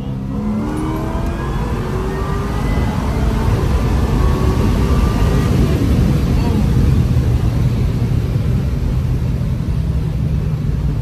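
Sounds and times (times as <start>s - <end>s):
car engine at full throttle: 0.0s - 11.0s.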